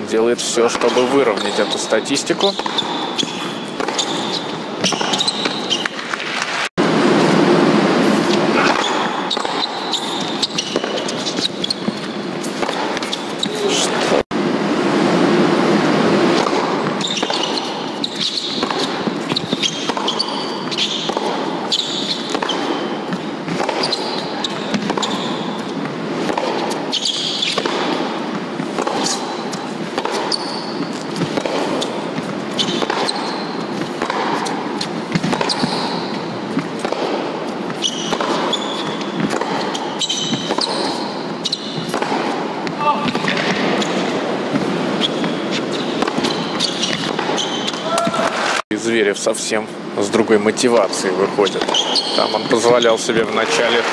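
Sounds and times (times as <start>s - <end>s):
rackets striking tennis balls: 0.0s - 48.6s, 50.5s - 53.9s
tennis balls bouncing: 0.4s - 14.2s, 14.8s - 48.6s, 50.8s - 53.9s.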